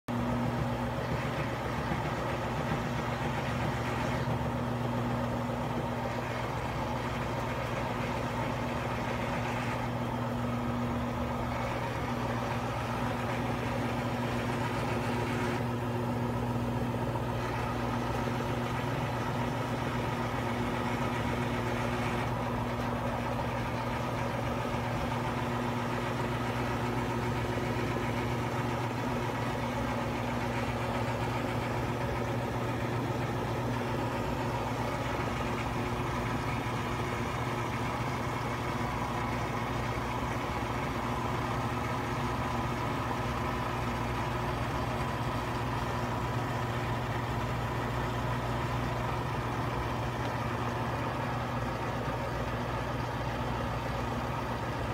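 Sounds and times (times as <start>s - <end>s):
washing machine spinning: 0.1s - 54.9s.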